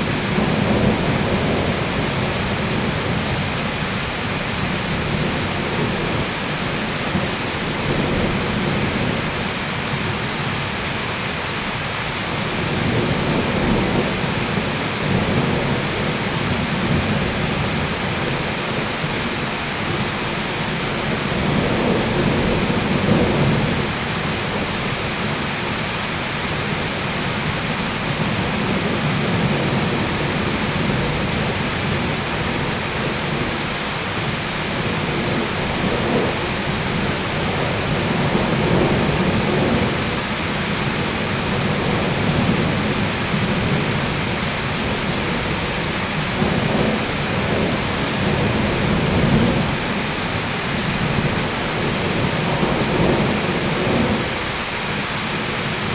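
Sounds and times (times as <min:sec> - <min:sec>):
rolling thunder: 0:00.0 - 0:10.7, 0:12.3 - 0:25.7, 0:26.4 - 0:55.9
heavy rain: 0:00.0 - 0:55.9.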